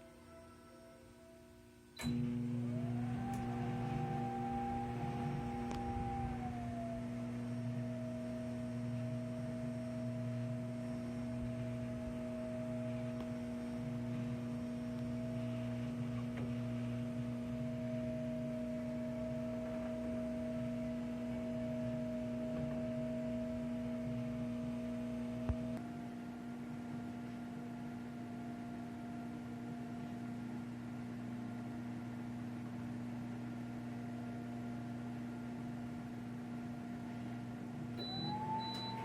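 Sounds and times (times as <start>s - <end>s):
microwave oven humming: 0.0s - 39.0s.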